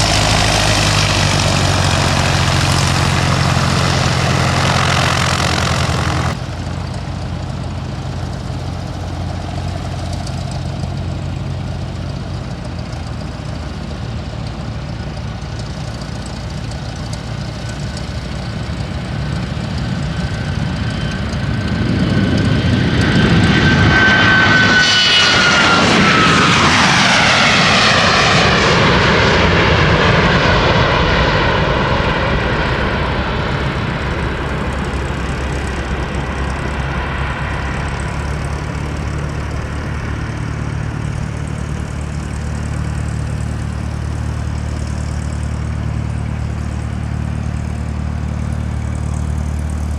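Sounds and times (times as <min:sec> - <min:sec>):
airplane passing close by: 0:00.0 - 0:49.9
high engine whine dropping in pitch: 0:00.0 - 0:49.9.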